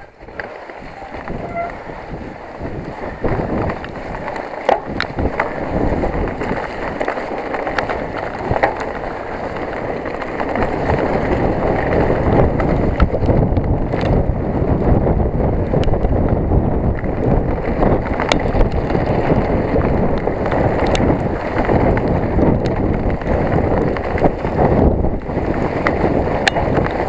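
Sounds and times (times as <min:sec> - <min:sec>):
bike knocks and rattles: 0:00.0 - 0:27.0
tyres rolling on dirt: 0:00.0 - 0:27.0
wind rushing over microphone: 0:00.0 - 0:27.0.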